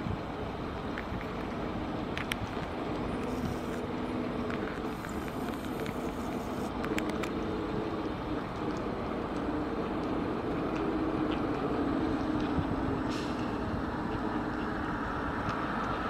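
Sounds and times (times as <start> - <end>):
street vehicles humming: 0.0 - 16.0.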